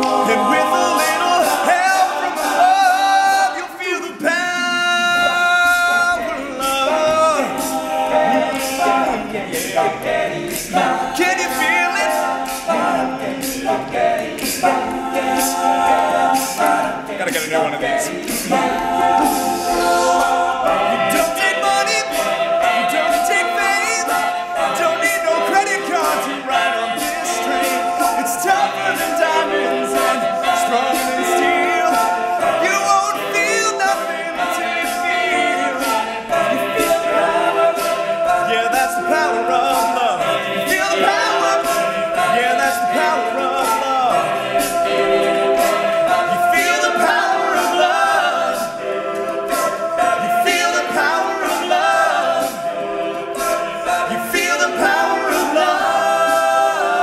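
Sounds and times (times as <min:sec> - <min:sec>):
men singing in close harmony: 0:00.0 - 0:57.0
sharp rhythmic clicks: 0:00.0 - 0:57.0.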